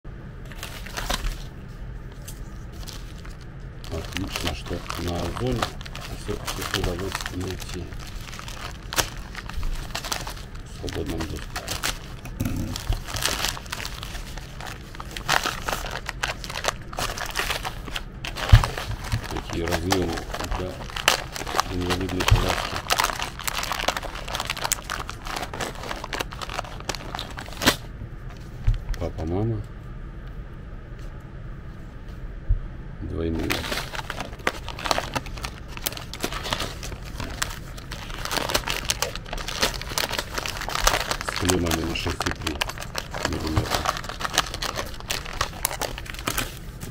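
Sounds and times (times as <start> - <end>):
plastic mailer bag crinkling: 0.4 - 1.5, 2.4 - 29.1, 33.3 - 46.9.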